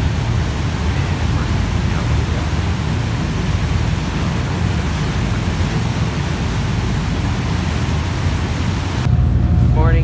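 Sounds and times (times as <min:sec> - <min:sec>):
churning wake: 0:00.0 - 0:10.0
ferry engine rumble: 0:00.0 - 0:10.0.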